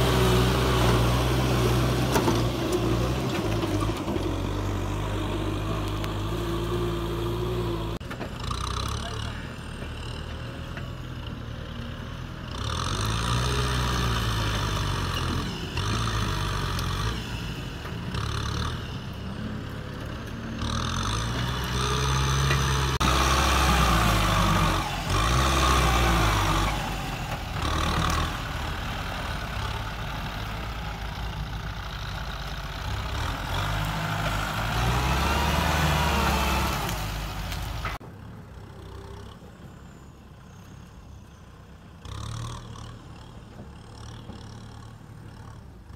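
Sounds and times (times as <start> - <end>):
dozer blade pushing dirt: 0.0 - 40.6, 42.0 - 45.9
tractor diesel engine under load: 0.0 - 45.9.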